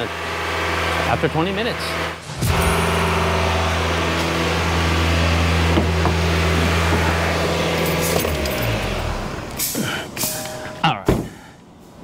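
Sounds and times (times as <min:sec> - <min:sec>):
car engine running steadily: 0:00.0 - 0:10.6.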